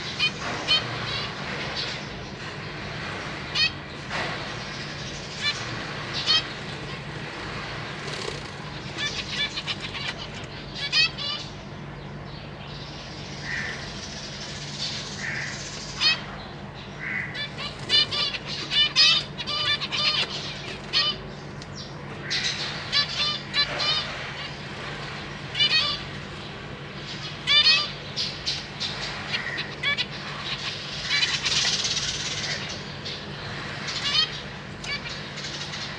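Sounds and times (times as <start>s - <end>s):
finches calling: 0.0s - 2.4s, 3.5s - 35.9s.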